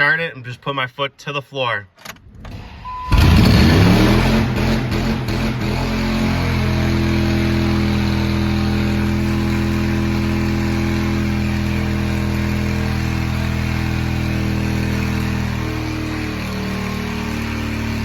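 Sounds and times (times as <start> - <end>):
engine at full throttle: 2.4 - 18.0.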